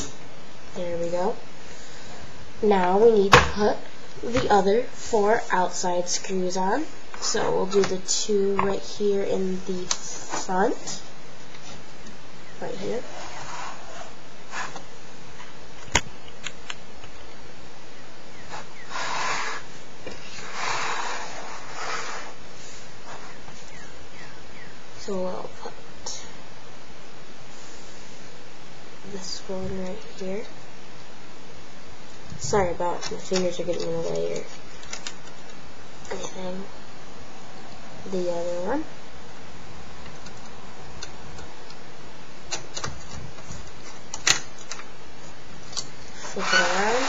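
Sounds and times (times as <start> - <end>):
steady hiss: 0.0 - 47.0.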